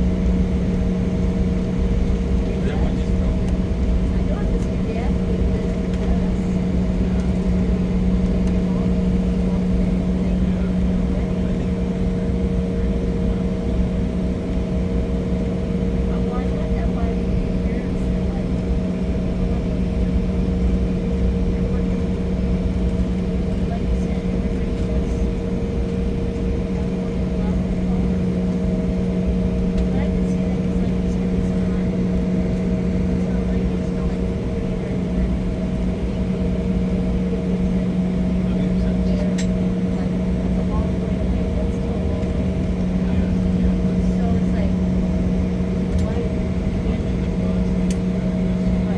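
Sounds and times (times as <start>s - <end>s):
airliner cabin drone: 0.0s - 48.9s.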